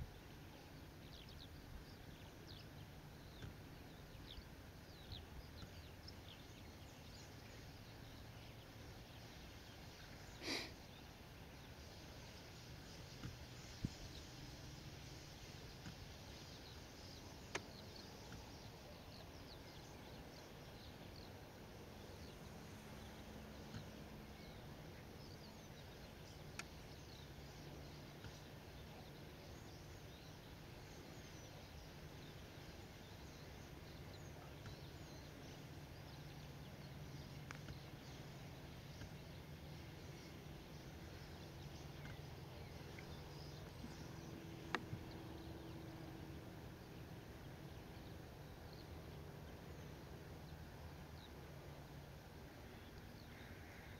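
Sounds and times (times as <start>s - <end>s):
distant birds twittering: 0.0s - 53.9s
low steady hum: 0.0s - 53.9s.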